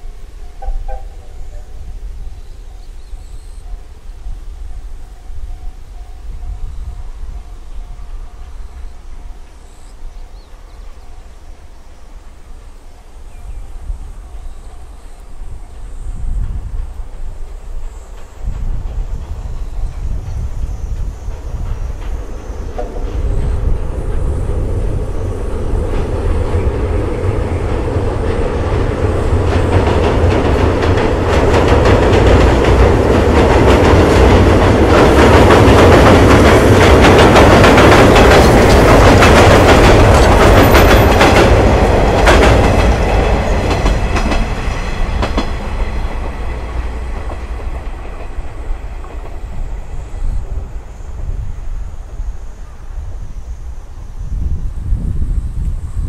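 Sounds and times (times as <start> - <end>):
steam train crossing bridge: 0.0 - 56.0.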